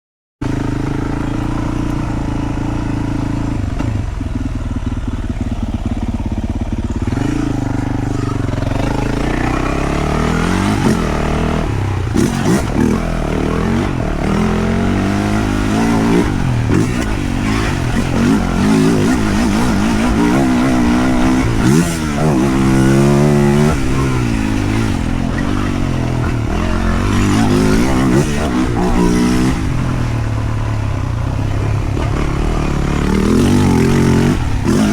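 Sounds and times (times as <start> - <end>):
motocross engine revving: 0.4 - 34.9.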